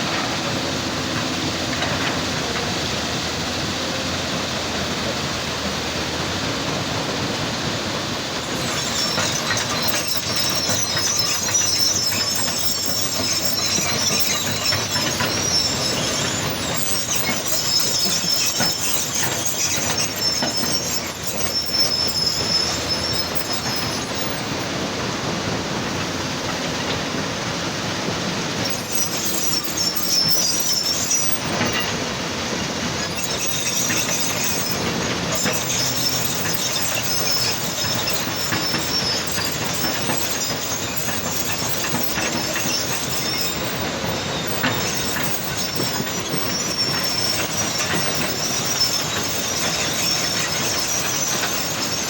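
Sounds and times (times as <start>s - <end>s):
heavy machinery running: 0.0s - 52.0s
high thin squealing: 8.4s - 26.6s, 28.5s - 52.0s.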